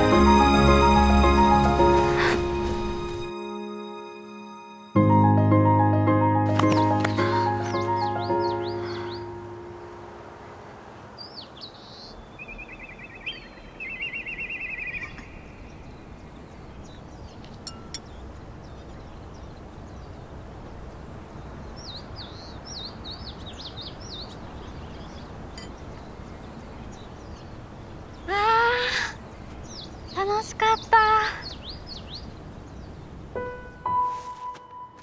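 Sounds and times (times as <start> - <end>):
birds chirping: 6.5 - 34.9.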